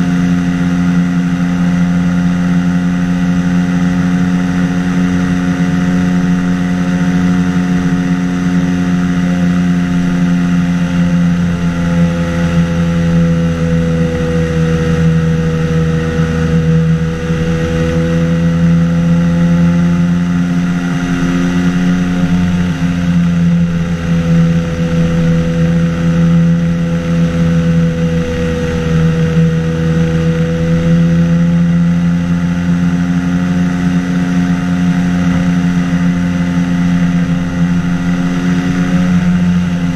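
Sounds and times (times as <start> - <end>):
microlight engine and propeller drone: 0.0 - 39.9.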